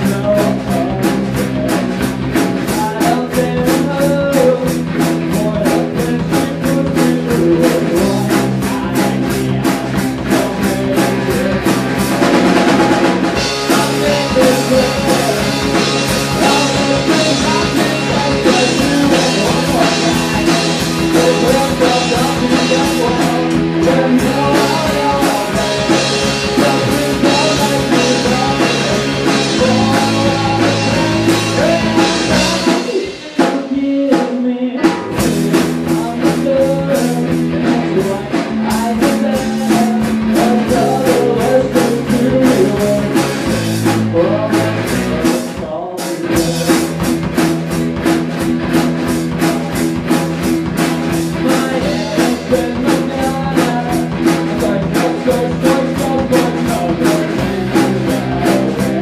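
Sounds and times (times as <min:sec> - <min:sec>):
man singing lead vocal: 0:00.0 - 0:48.1, 0:49.2 - 0:59.0
rock band playing live: 0:00.0 - 0:59.0.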